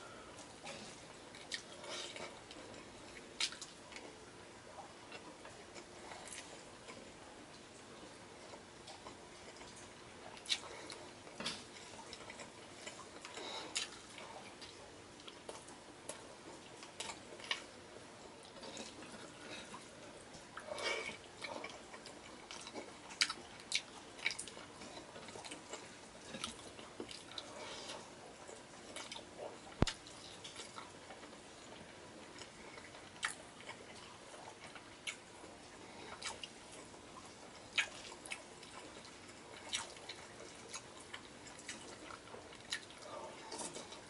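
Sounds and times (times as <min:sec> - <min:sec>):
wet chewing: 0:00.4 - 0:04.2, 0:08.4 - 0:44.0.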